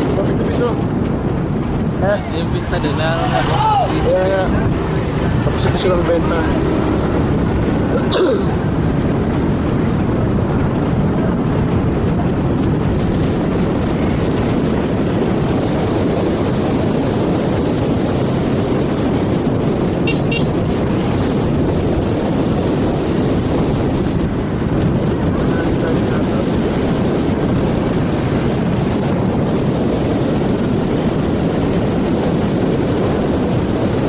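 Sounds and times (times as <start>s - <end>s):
wind rush on microphone: 0.0s - 34.0s
motorcycle engine: 0.8s - 33.8s.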